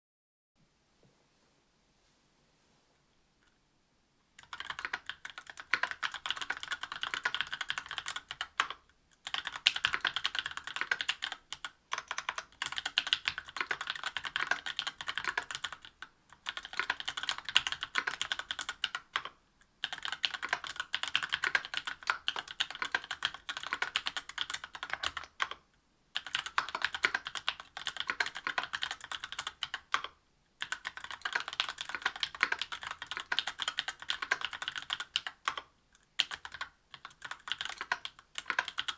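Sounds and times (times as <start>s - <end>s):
mechanical keyboard clacks: 4.4s - 25.5s, 26.2s - 30.0s, 30.6s - 35.6s, 36.2s - 38.9s.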